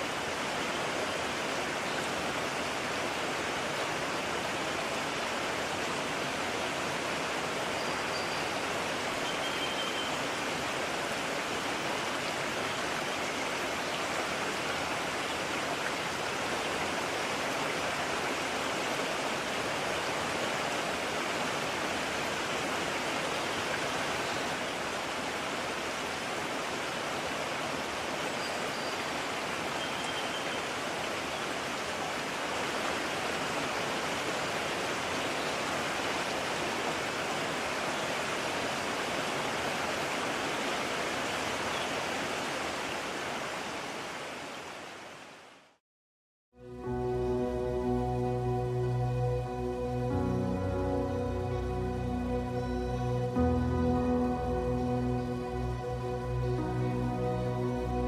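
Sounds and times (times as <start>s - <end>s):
mountain stream rushing: 0.0s - 45.8s, 46.8s - 58.0s.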